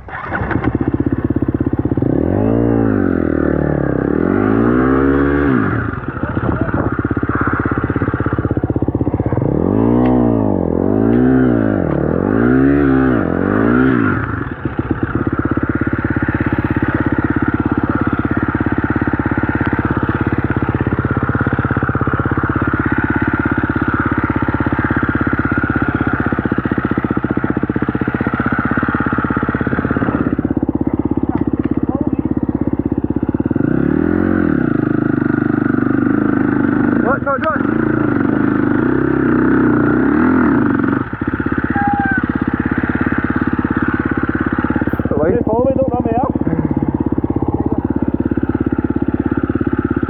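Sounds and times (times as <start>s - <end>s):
dirt bike engine revving and idling: 0.0s - 50.0s.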